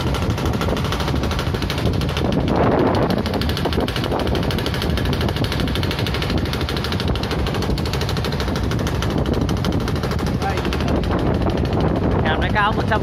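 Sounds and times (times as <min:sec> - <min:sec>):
motorboat engine putter: 0:00.0 - 0:13.0.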